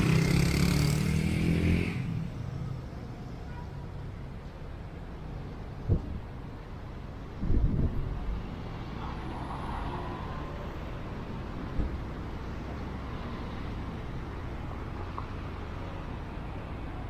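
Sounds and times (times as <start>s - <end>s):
passing cars and buses: 0.0s - 17.0s.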